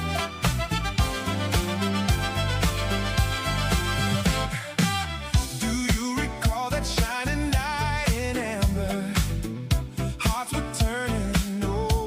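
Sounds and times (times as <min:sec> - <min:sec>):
funk music with drums: 0:00.0 - 0:12.0.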